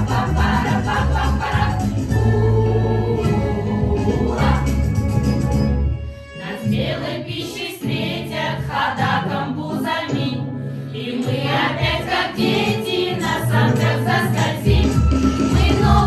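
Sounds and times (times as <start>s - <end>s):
choir singing: 0.0s - 5.2s, 6.4s - 10.4s, 11.0s - 16.0s.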